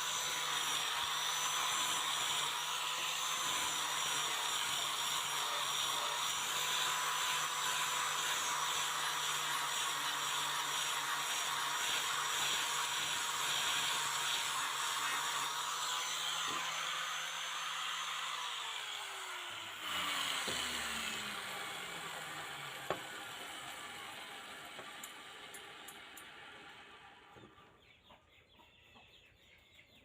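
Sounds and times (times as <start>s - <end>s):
power tool motor running: 0.0s - 27.7s.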